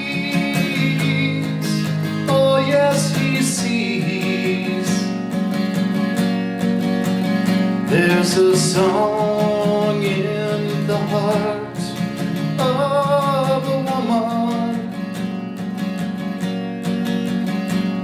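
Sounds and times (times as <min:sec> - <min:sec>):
acoustic guitar strummed: 0:00.0 - 0:18.0.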